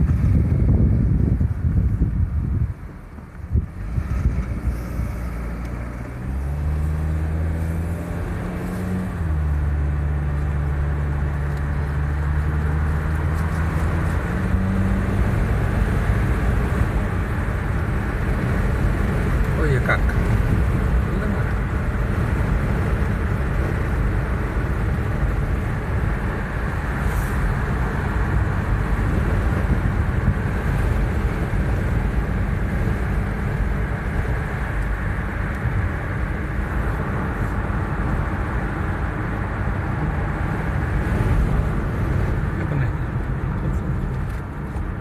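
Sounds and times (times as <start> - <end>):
car engine cruising: 0.0 - 45.0.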